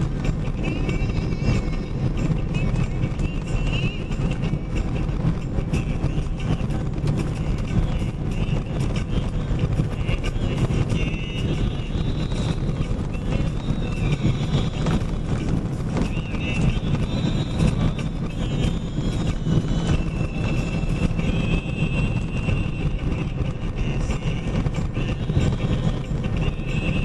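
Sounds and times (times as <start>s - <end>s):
truck engine and road noise: 0.0s - 27.0s.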